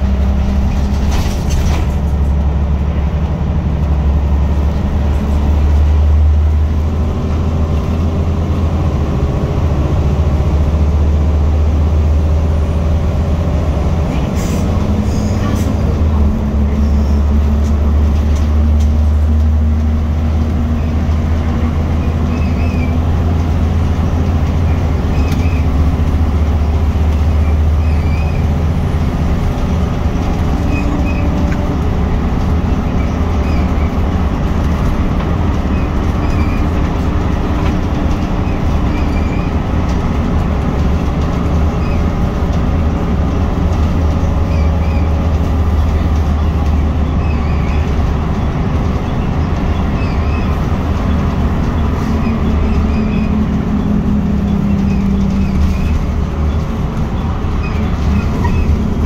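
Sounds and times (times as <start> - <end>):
bus diesel engine drone: 0.0 - 59.0
road and tyre noise: 0.0 - 59.0.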